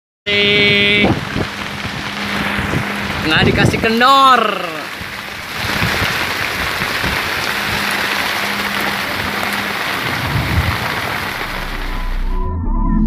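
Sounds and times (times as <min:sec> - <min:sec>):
heavy rain pouring: 0:00.3 - 0:12.4.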